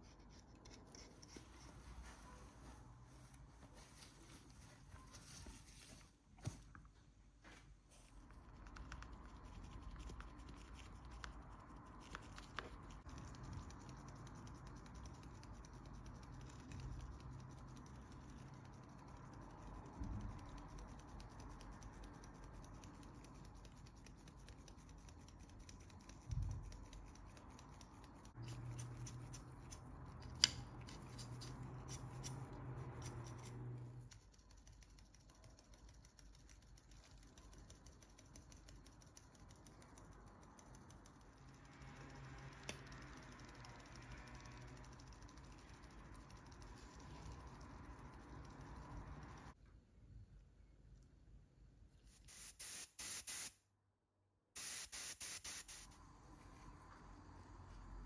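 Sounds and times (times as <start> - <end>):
faint scratching and clicking: 0.0 - 7.0, 7.9 - 49.6.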